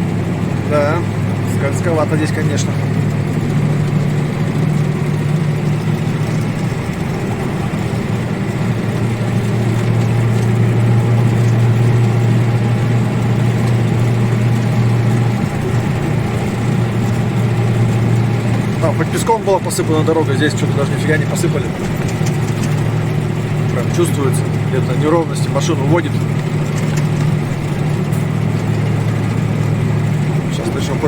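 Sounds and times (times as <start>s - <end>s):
truck engine running under load: 0.0s - 31.0s.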